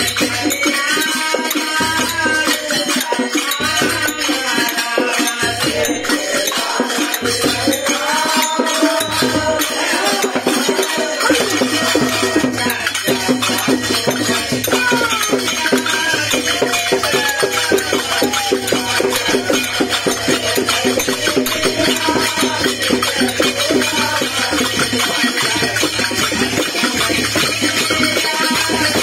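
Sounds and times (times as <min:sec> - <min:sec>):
group singing: 0:00.0 - 0:29.0
hand drum beat: 0:00.0 - 0:29.0
jingling hand percussion: 0:00.0 - 0:29.0.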